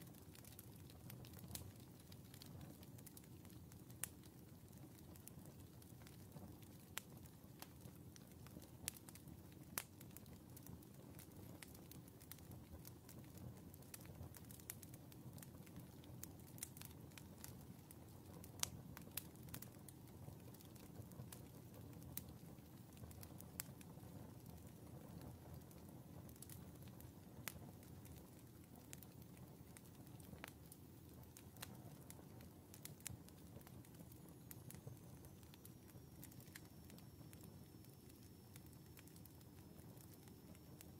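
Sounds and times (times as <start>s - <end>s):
fire crackles and pops: 0.0s - 40.9s
low rumble of flame: 0.0s - 40.9s.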